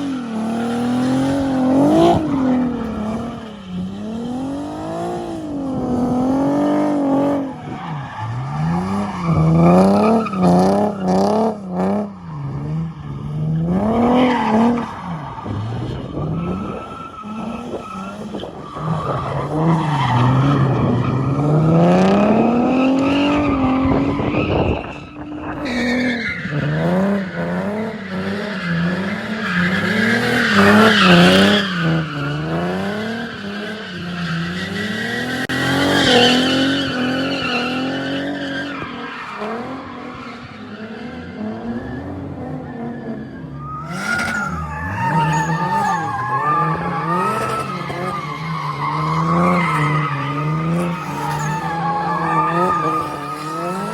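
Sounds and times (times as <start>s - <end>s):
car engine revving: 0.0s - 53.9s
tyres squealing and skidding: 0.0s - 53.9s.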